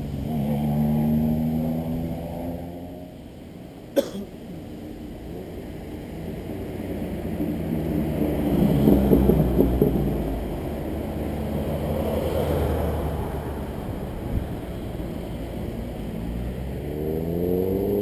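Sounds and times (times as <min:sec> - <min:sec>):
sports car engine passing: 0:00.0 - 0:03.4, 0:05.4 - 0:18.0
traffic: 0:00.0 - 0:18.0.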